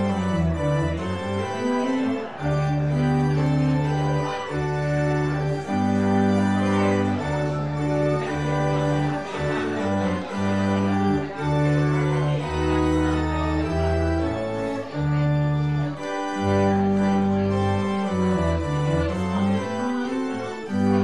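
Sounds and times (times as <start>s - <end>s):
church organ chords: 0.0s - 21.0s.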